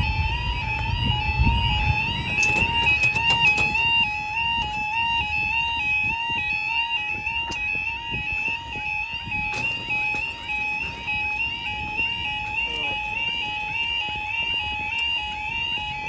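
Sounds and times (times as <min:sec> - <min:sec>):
warbling two-tone crossing alarm: 0:00.0 - 0:16.0.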